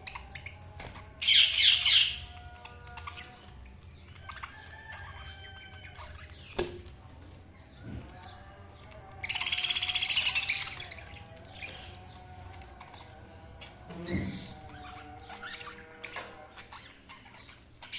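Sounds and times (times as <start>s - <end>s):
budgerigars chirping and whistling: 0.0s - 6.6s, 7.6s - 17.9s.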